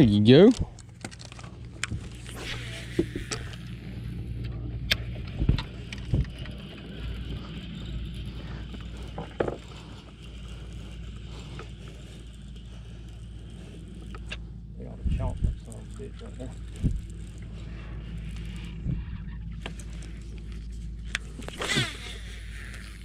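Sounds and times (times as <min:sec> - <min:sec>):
gear clicking and knocking: 0:00.0 - 0:23.0
steady low hum: 0:00.0 - 0:23.0.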